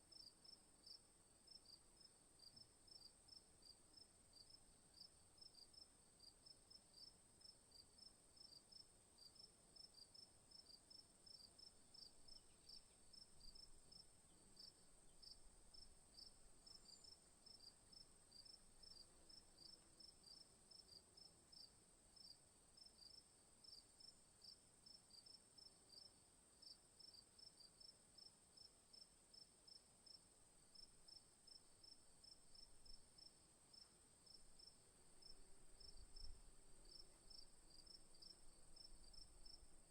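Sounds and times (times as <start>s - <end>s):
crickets chirping: 7.0s - 39.9s.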